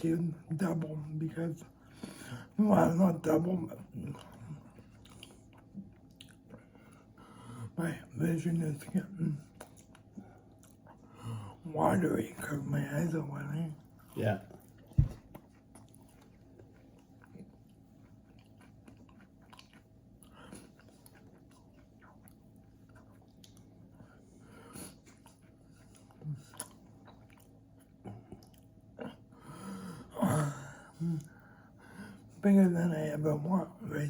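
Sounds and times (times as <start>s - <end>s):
close-up chewing: 0.4s - 7.8s, 8.4s - 11.7s, 12.3s - 32.4s.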